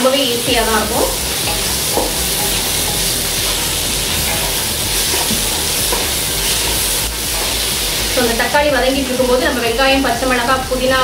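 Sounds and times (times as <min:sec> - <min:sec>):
vegetables sizzling in oil: 0:00.0 - 0:11.0
spatula stirring in pan: 0:00.4 - 0:10.5.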